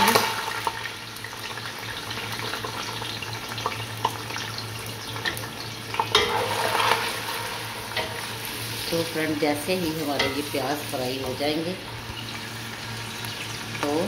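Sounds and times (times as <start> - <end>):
onions sizzling in oil: 0.0 - 14.0
onions splashing into hot oil: 0.0 - 14.0.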